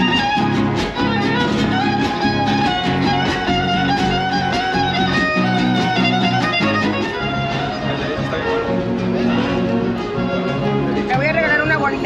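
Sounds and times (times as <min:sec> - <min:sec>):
lively violin and guitar music: 0:00.0 - 0:12.0.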